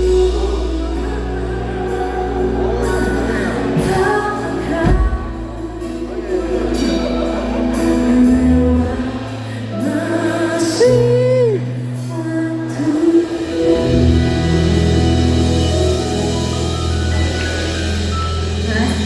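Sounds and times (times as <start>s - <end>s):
lead vocal singing: 0.0s - 17.6s
live pop band playing: 0.0s - 19.0s.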